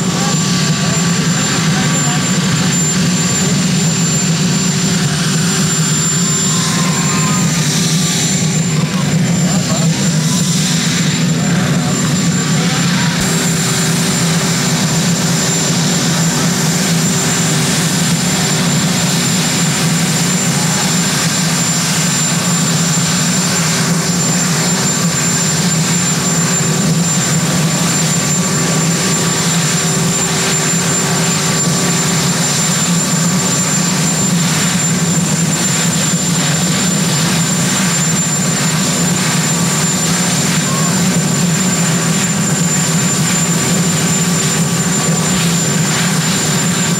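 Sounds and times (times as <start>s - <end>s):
helicopter rotor and turbine rumble: 0.0s - 46.9s
high turbine whine: 0.0s - 46.9s.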